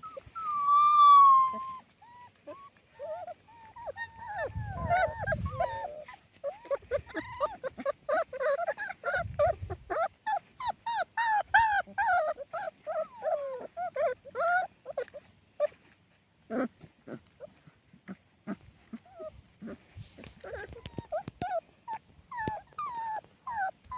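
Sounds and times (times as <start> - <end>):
puppies whimpering and yipping: 0.0 - 23.9.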